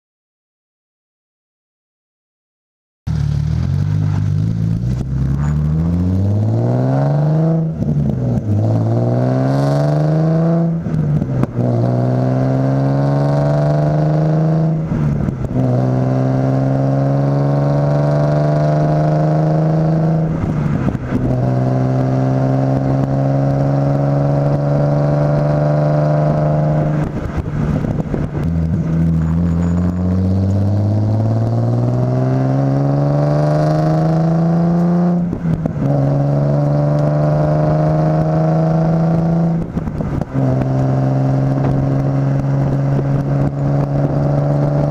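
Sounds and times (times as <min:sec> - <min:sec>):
car exhaust through gear shifts: 0:03.1 - 0:44.9.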